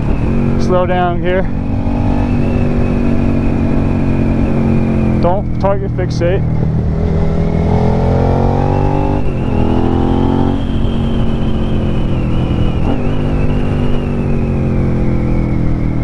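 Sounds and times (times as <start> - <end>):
motorcycle engine revving: 0.0 - 16.0
wind noise: 0.0 - 16.0.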